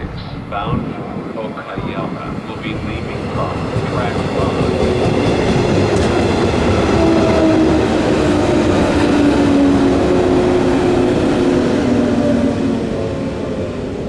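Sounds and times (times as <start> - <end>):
electric train running noise: 0.0 - 14.0.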